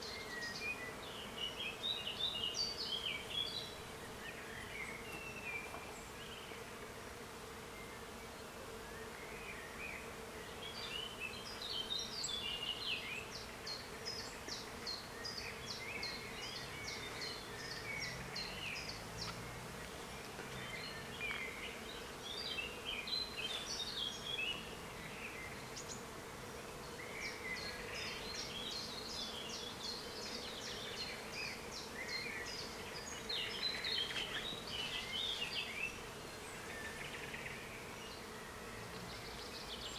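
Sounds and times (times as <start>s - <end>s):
small birds singing: 0.0s - 6.8s, 7.6s - 39.9s.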